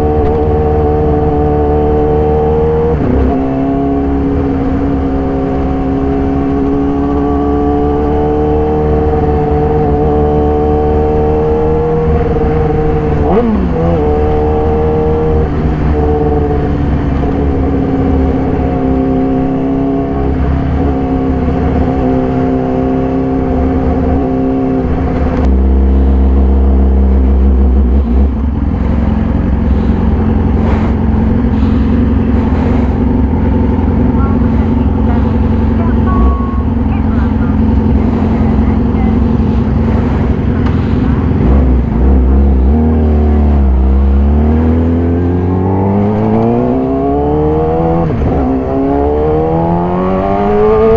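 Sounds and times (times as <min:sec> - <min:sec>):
heavy low rumble: 0:00.0 - 0:50.9
motorcycle engine running: 0:00.0 - 0:50.9.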